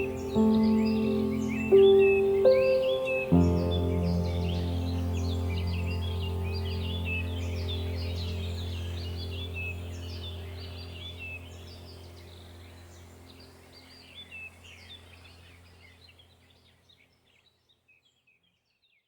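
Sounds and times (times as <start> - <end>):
low steady drone: 0.0 - 16.4
small birds chirping: 0.0 - 19.0.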